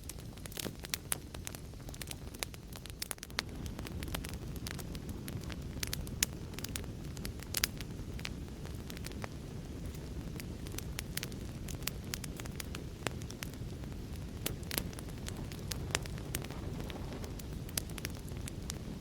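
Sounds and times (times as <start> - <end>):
fire crackling: 0.0 - 19.0.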